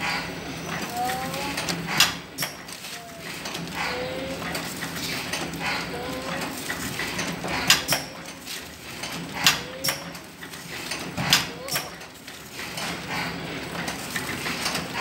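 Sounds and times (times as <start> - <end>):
packing machine hum: 0.0 - 15.0
sharp mechanical clacks: 0.0 - 15.0.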